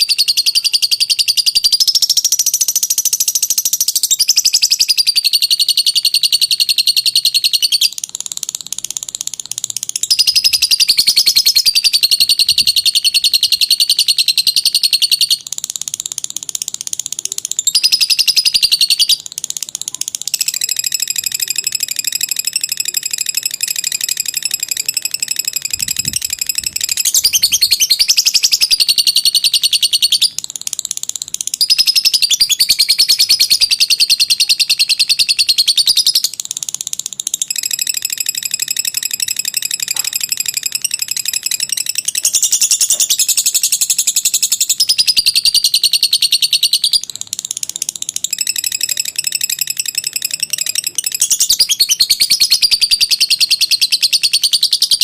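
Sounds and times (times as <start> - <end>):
lovebird buzzy trill: 0.0 - 55.0.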